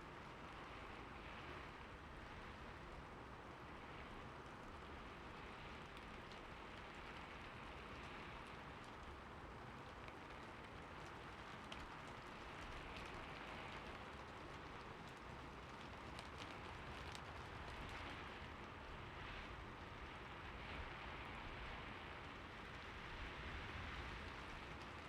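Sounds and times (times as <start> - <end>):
light rain hiss: 0.0 - 25.0.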